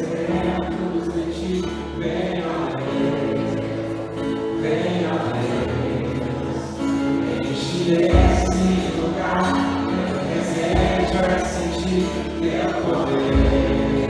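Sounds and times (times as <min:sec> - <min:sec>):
choir singing gospel: 0:00.0 - 0:14.0
instrumental backing: 0:00.0 - 0:14.0.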